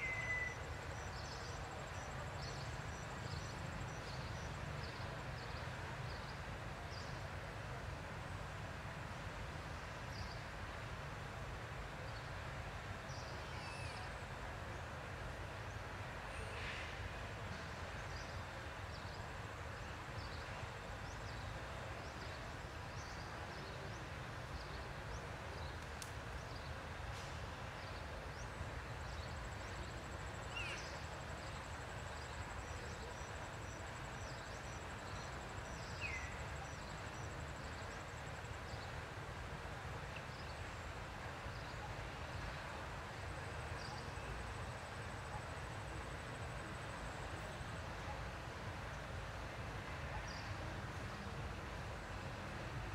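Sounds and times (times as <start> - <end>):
low rumble and hiss: 0.0 - 52.9.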